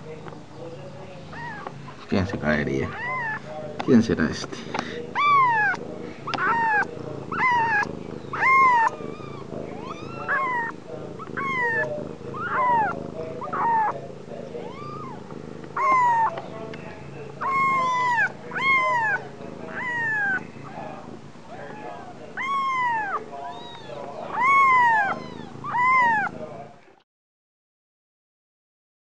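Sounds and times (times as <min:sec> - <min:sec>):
newborn kittens mewing: 0:01.3 - 0:26.7.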